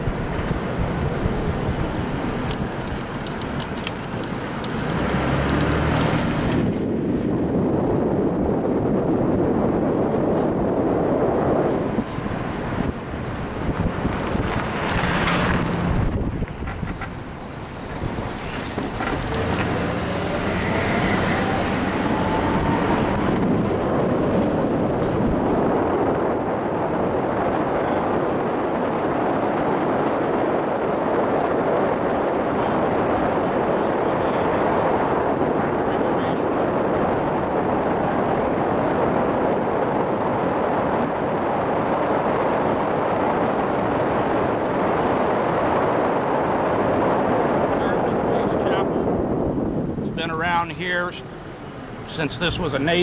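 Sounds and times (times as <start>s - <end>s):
car driving: 0.0s - 53.0s
wind buffeting microphone: 0.0s - 53.0s.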